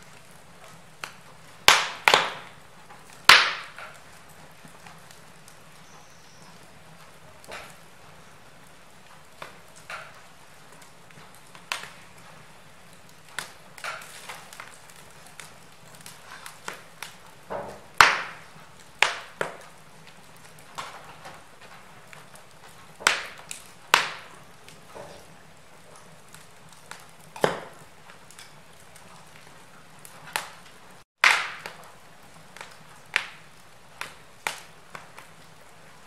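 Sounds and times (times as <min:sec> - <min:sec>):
faint steady hiss: 0:00.0 - 0:36.0
wood fire crackling and popping: 0:00.0 - 0:36.0.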